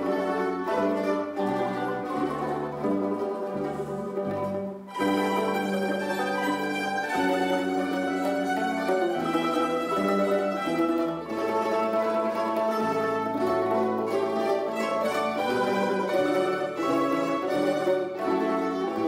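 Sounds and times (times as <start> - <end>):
mandolins and guitars playing: 0.0 - 19.0.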